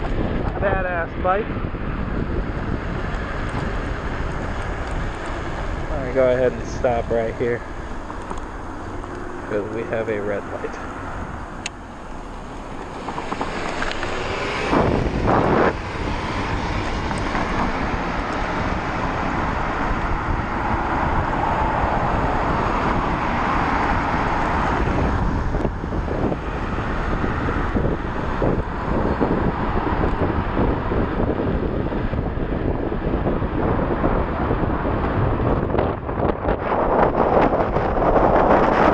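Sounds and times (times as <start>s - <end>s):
road noise: 0.0s - 38.9s
wind rushing over microphone: 0.0s - 38.9s.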